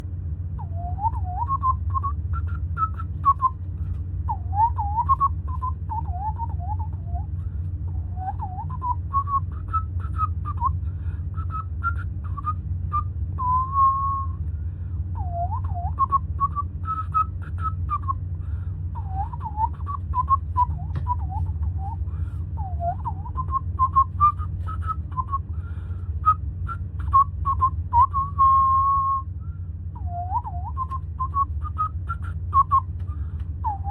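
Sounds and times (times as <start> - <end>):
steady low hum: 0.0 - 33.9
person whistling a tune: 0.6 - 3.6, 4.3 - 7.4, 8.0 - 14.4, 15.2 - 18.2, 19.0 - 25.5, 26.2 - 33.9.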